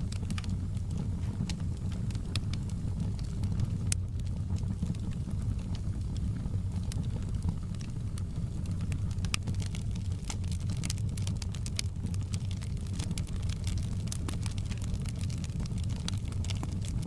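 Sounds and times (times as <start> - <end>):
steady low rumble: 0.0 - 16.4
wood fire crackling and popping: 0.0 - 17.0.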